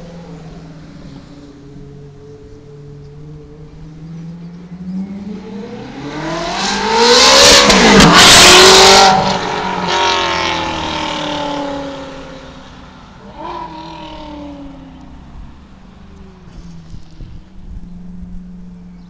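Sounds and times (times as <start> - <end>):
sports car driving past: 0.0 - 19.0.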